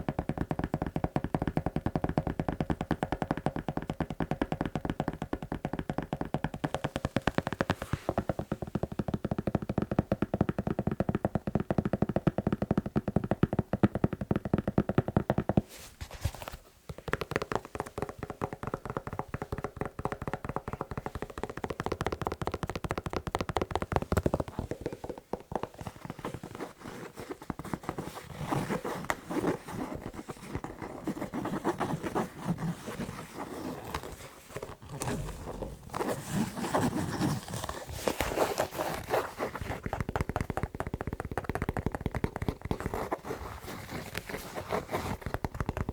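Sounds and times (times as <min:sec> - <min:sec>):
fast tapping and scratching on shoe: 0:00.0 - 0:45.9.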